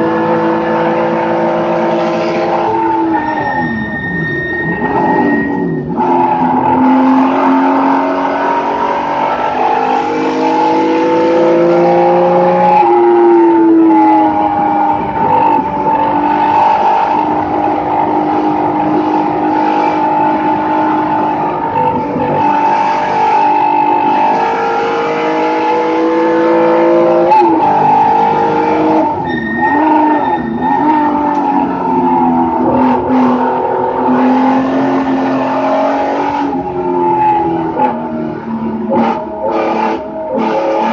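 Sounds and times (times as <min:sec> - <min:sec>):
race car engine under load: 0:00.0 - 0:40.9.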